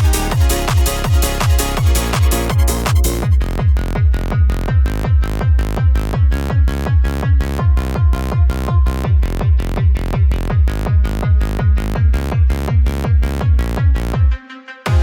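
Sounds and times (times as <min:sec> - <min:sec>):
electronic music with fast kick drum: 0:00.0 - 0:15.0.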